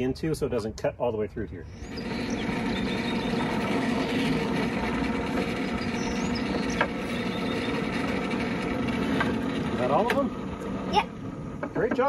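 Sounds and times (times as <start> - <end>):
electric motor running: 1.7 - 12.0.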